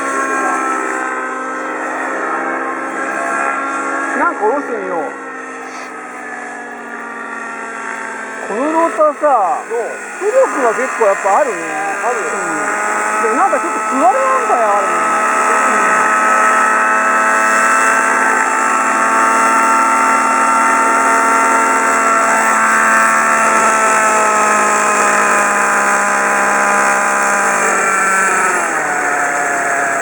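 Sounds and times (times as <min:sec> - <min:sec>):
model helicopter engine and rotor: 0:00.0 - 0:30.0.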